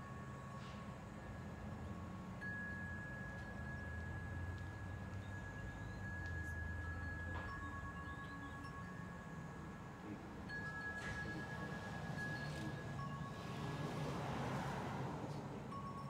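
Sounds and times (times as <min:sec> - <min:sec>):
tubular wind chime ringing: 0:00.0 - 0:16.0.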